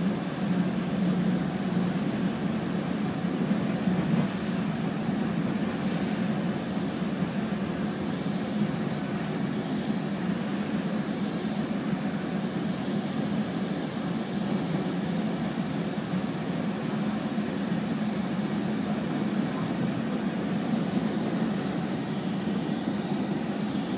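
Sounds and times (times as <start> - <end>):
train hum and rumble: 0.0 - 23.9.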